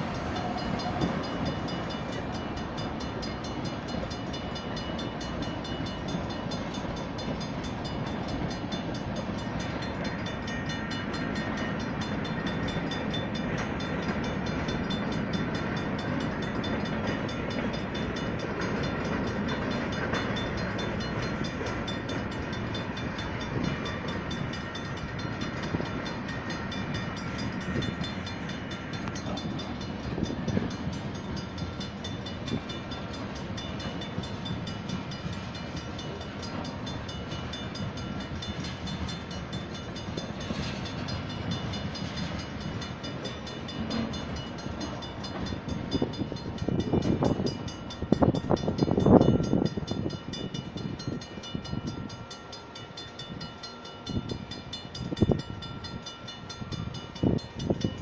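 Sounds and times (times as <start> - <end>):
crossing bells ringing: 0.0 - 58.0
freight train wheels clacking: 0.0 - 58.0.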